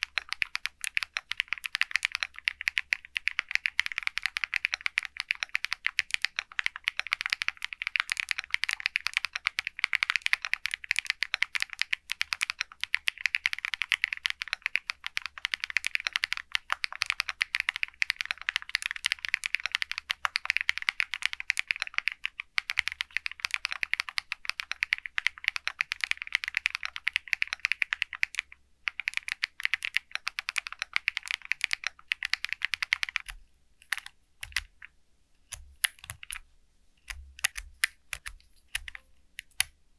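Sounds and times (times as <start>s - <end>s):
mechanical keyboard typing: 0.0s - 36.4s, 37.0s - 39.8s.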